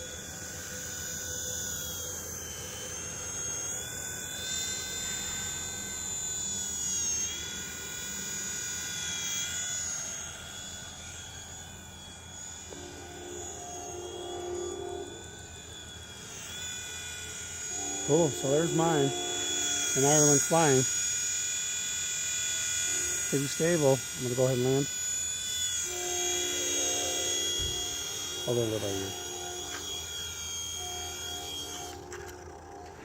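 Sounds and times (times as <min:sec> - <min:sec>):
toy helicopter rotor whine: 0:00.0 - 0:33.0.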